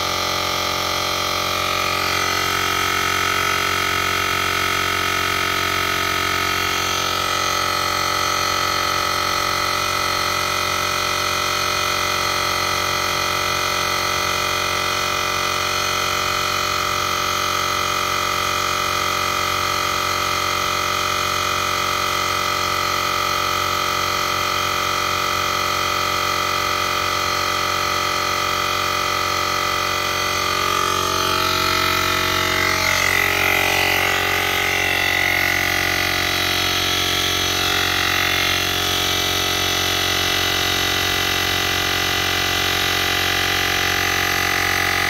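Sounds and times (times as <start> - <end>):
air compressor motor whining: 0.0 - 45.0.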